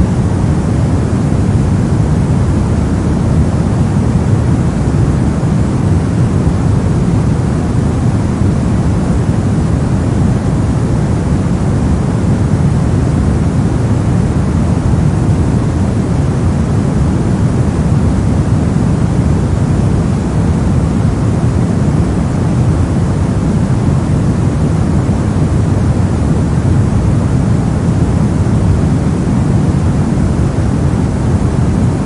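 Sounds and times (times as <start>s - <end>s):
brown noise rushing hiss: 0.0s - 32.0s.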